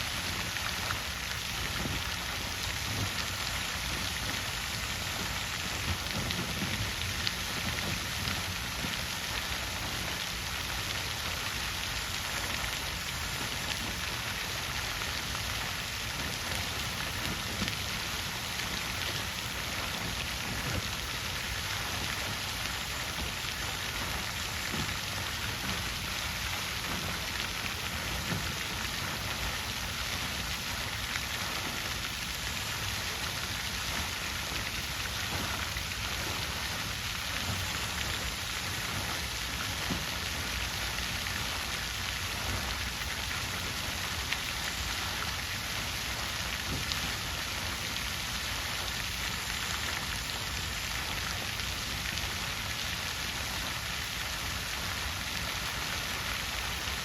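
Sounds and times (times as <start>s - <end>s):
water fountain splashing: 0.0s - 57.0s.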